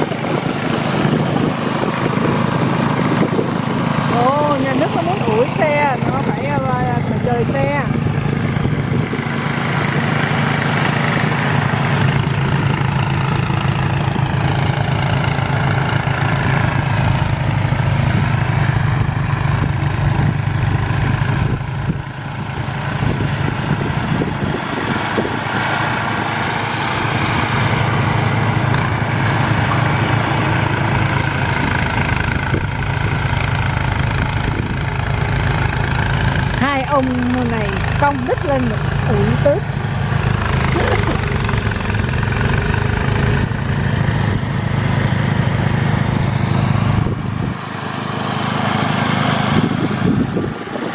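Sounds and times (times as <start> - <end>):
snow-clearing machine engine running: 0.0 - 50.9.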